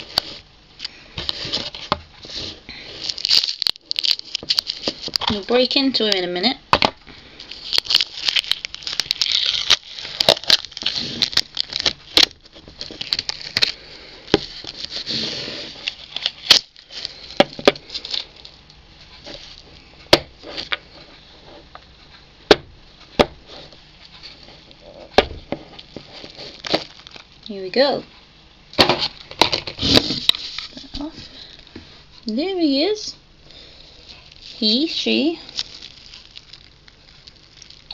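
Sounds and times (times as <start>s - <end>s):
cling film crinkling: 0.0s - 6.3s, 7.2s - 21.1s, 23.5s - 27.5s, 29.1s - 31.7s, 33.5s - 37.9s.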